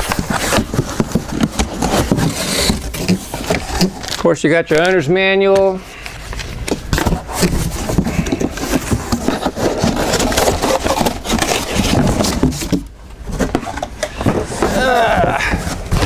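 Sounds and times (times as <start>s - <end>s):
cardboard and paper scraping and crackling: 0.0s - 4.9s, 5.5s - 16.0s.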